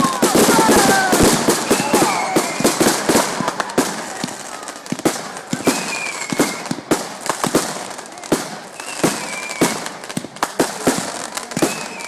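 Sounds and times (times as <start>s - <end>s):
fireworks bangs: 0.0s - 12.0s
fireworks crackle: 0.0s - 12.0s.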